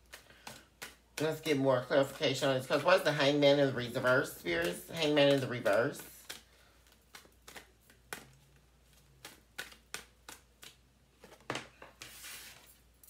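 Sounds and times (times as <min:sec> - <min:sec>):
cards being shuffled: 0:00.0 - 0:12.9.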